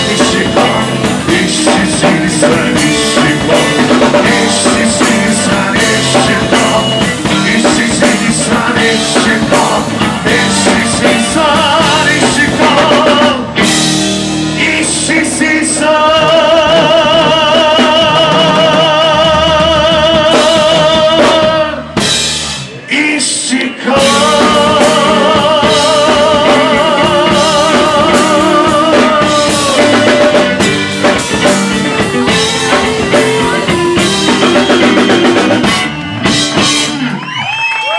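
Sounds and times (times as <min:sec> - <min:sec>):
rock band playing: 0:00.0 - 0:37.9.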